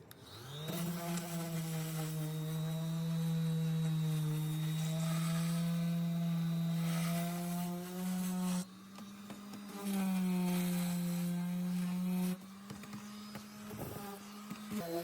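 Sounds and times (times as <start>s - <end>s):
small electric motor whining: 0.0s - 15.0s.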